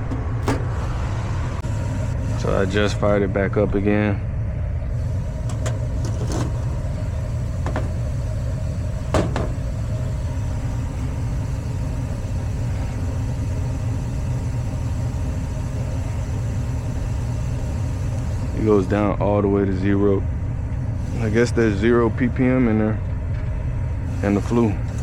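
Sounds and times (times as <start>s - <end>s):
gas furnace rumbling: 0.0s - 25.0s.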